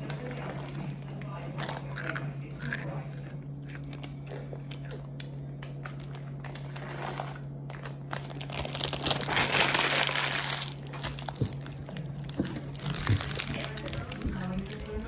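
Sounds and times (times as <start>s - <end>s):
steady low hum: 0.0s - 15.0s
chip bag crinkling: 1.6s - 15.0s.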